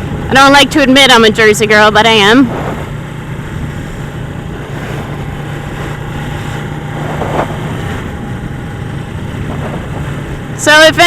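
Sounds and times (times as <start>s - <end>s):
motorcycle engine running: 0.0s - 11.0s
rush of noise: 1.6s - 11.0s.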